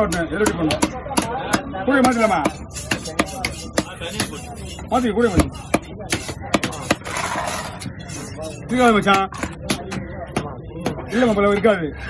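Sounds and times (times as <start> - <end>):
knife chopping fish on wood: 0.0 - 7.2, 7.8 - 11.1.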